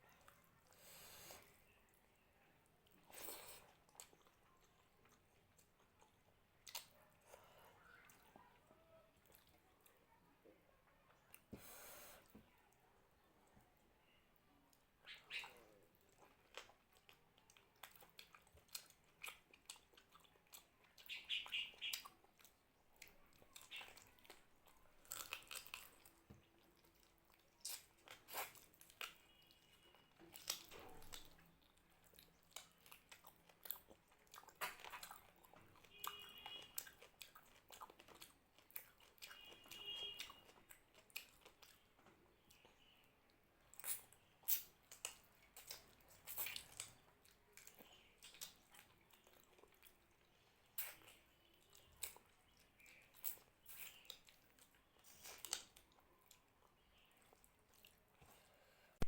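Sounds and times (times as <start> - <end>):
person chewing food: 2.8 - 10.0, 14.7 - 59.0.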